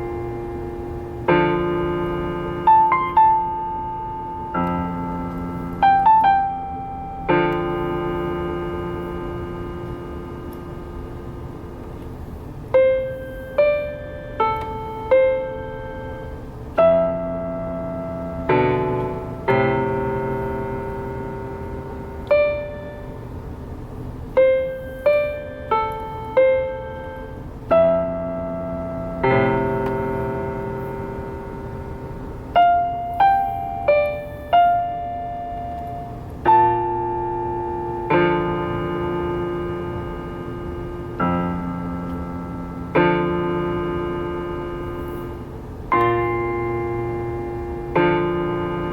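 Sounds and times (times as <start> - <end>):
slow piano tune: 0.0 - 48.9.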